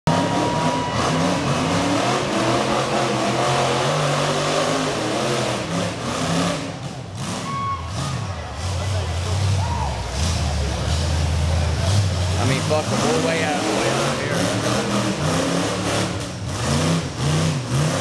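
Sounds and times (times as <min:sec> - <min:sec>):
buggy engine revving: 0:00.1 - 0:18.0.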